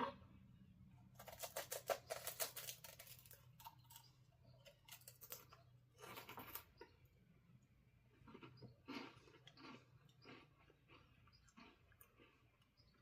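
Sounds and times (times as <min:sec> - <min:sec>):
chewing crisp wafer cone: 0:01.0 - 0:13.0.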